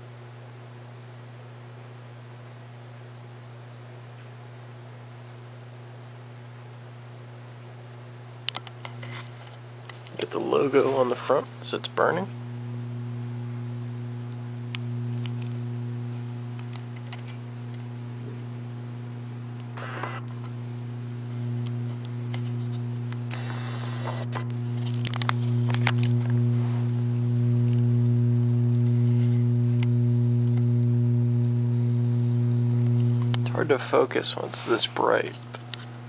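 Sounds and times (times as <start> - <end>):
low mains hum of lamp ballast: 0.0 - 36.0.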